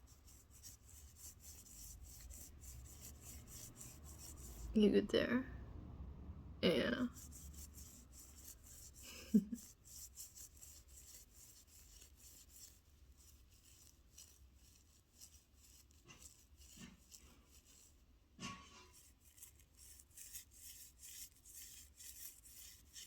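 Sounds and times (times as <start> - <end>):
toothbrush scrubbing: 0.0 - 4.8, 7.1 - 18.1, 18.8 - 23.0.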